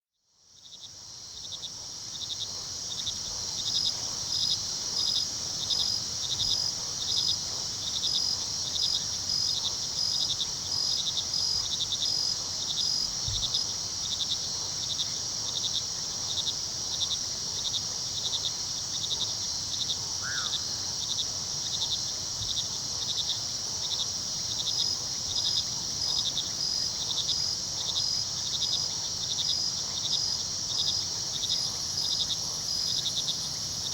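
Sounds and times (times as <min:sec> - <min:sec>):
crickets chirping: 0:00.4 - 0:33.9
insects trilling: 0:00.5 - 0:33.9.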